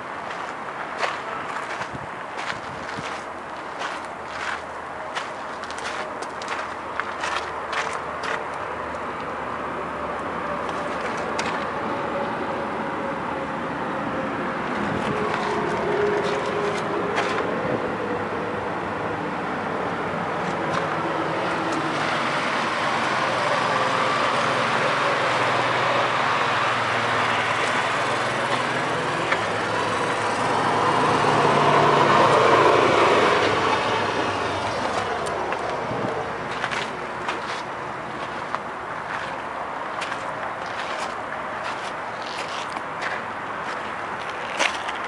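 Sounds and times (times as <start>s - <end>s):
crawler tractor diesel engine: 0.0s - 45.0s.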